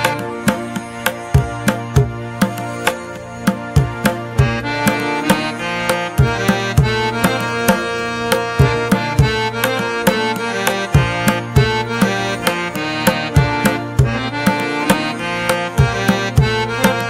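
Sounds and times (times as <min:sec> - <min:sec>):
held melodic notes: 0:00.0 - 0:17.0.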